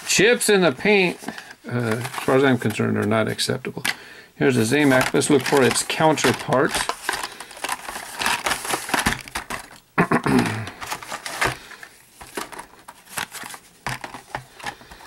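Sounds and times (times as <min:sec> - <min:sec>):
plastic blister cards crinkling: 0:00.0 - 0:09.9, 0:10.6 - 0:15.0.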